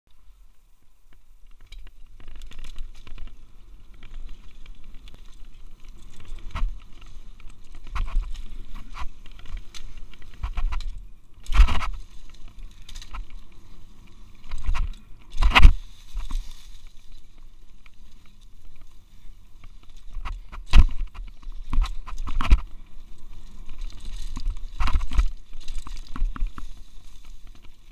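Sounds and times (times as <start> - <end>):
bike rattling: 0.1 - 27.9
bike tyres crunching over leaves: 0.1 - 27.9.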